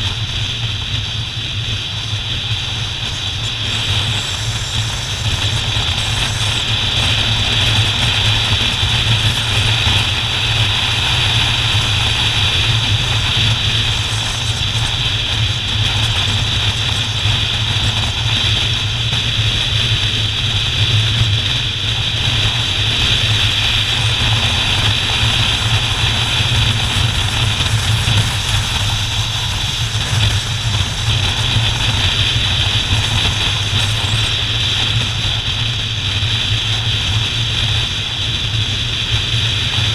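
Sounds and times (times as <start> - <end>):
motorcycle engine drone: 0.0 - 39.9
road noise: 0.0 - 39.9.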